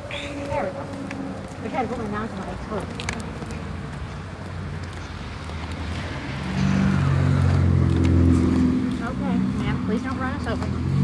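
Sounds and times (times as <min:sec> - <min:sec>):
car engine hum approaching: 0:00.0 - 0:11.0.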